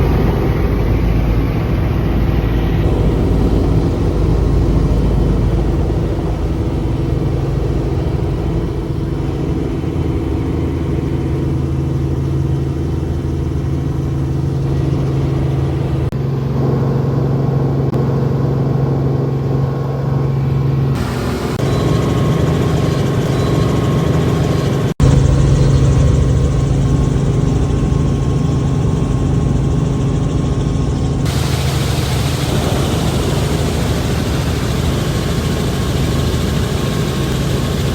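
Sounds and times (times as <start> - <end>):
helicopter engine and rotor: 0.0 - 37.9.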